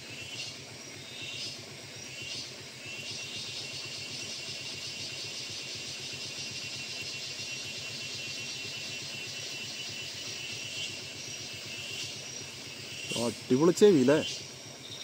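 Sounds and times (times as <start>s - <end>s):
insects buzzing: 0.0s - 15.0s
vehicle engine idling: 0.0s - 15.0s.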